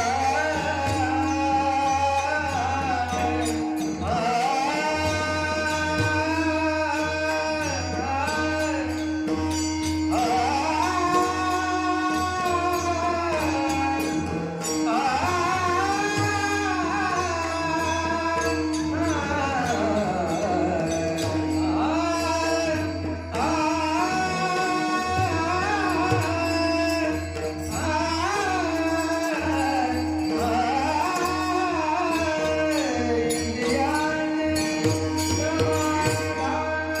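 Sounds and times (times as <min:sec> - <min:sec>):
man singing ornamented vocal: 0:00.0 - 0:37.0.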